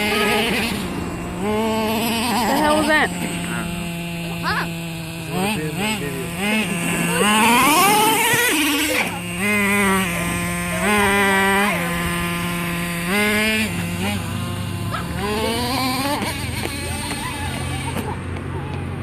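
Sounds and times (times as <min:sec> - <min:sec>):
small two-stroke engine revving: 0:00.0 - 0:19.0.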